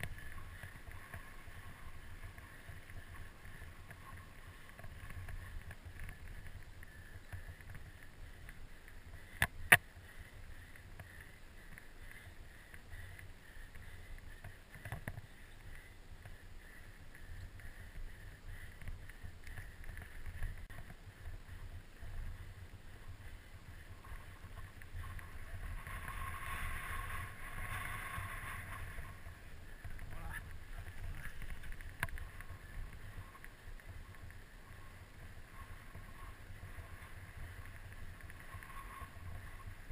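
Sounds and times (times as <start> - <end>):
bike tyres rattling on trail: 0.0 - 39.9.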